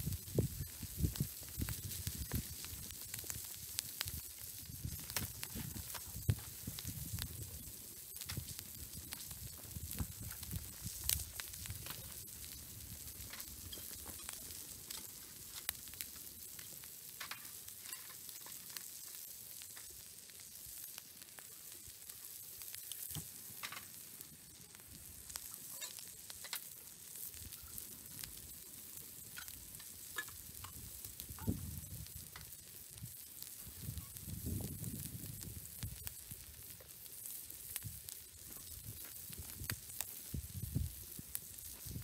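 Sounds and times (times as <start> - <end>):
food sizzling on a griddle: 0.0 - 42.0.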